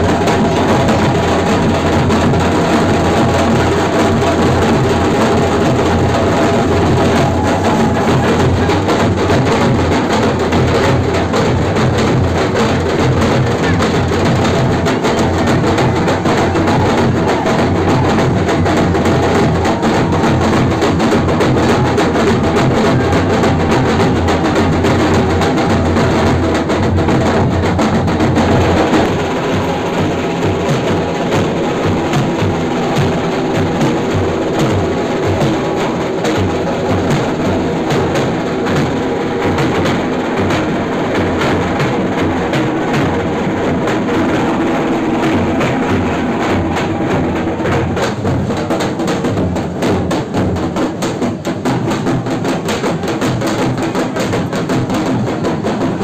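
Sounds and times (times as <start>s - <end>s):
fast dense drumming: 0.0s - 56.0s
music: 0.0s - 56.0s.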